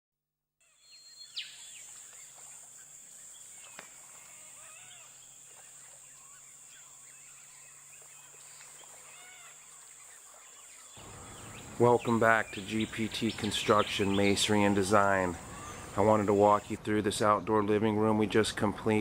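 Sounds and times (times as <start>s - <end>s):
high-pitched insect drone: 0.6s - 16.7s
birds chirping: 0.6s - 19.0s.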